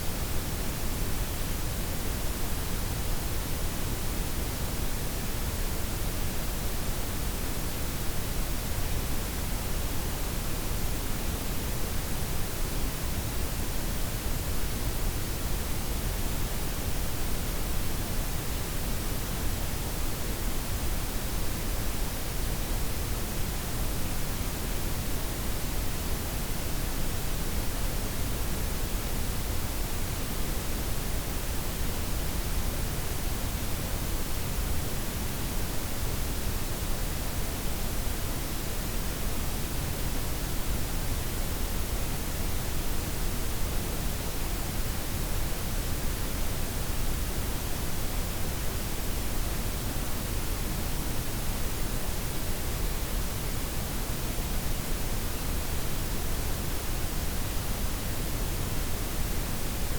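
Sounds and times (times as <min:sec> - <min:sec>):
steady noise hiss: 0:00.0 - 0:59.9.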